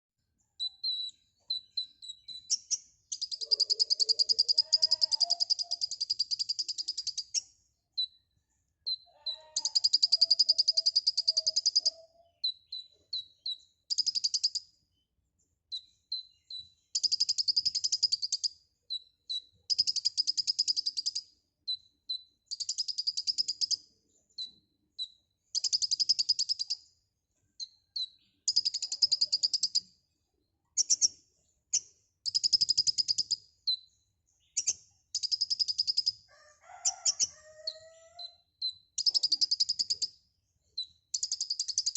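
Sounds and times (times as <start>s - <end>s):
bird singing chips and trills: 0.4s - 8.2s, 8.8s - 30.0s, 30.7s - 36.3s, 36.9s - 41.9s.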